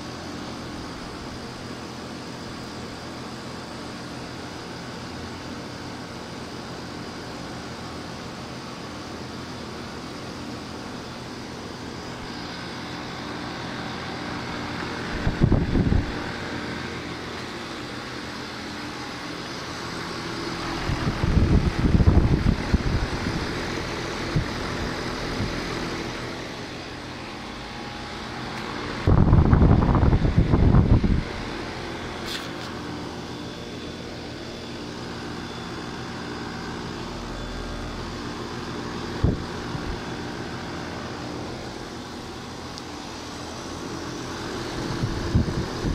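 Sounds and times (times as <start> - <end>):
air conditioner humming: 0.0 - 45.9.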